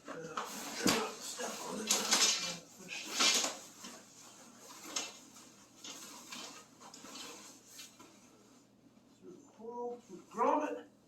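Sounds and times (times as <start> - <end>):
handling rustles and light knocks: 0.0 - 9.2.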